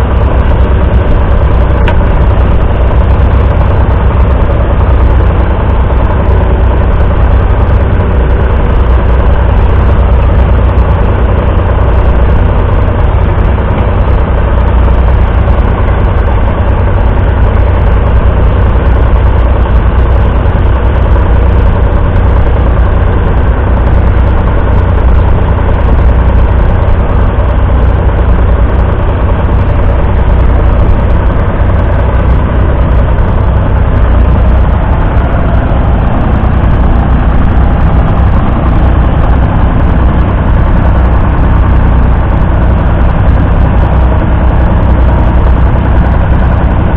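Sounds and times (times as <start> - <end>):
diesel tractor engine running: 0.0 - 46.9.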